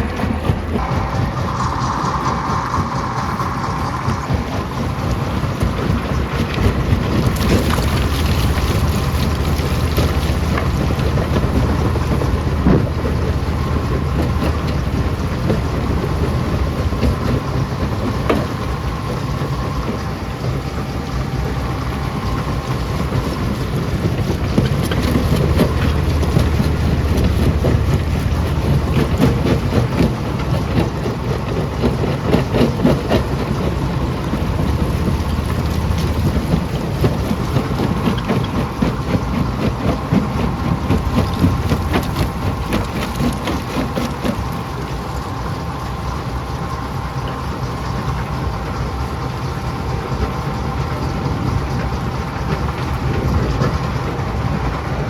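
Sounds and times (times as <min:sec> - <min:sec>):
rock crusher machine drone: 0:00.0 - 0:55.0.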